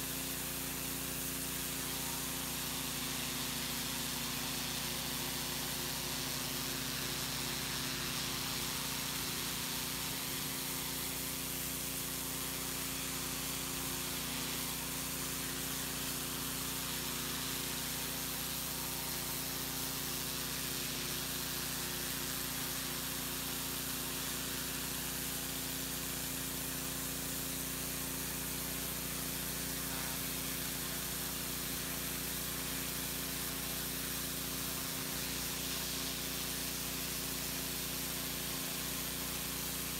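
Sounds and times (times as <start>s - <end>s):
pressure washer engine humming: 0.0s - 39.9s
water jet spraying on brick: 0.0s - 39.9s.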